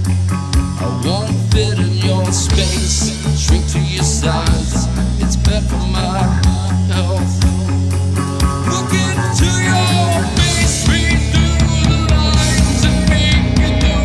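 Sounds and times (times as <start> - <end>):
sludge metal band playing: 0.0 - 14.0.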